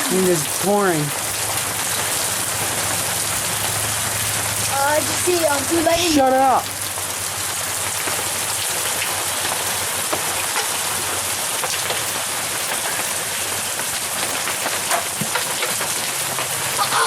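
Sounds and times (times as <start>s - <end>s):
hailstones striking surfaces: 0.0s - 17.0s
heavy rain pouring: 0.0s - 17.0s.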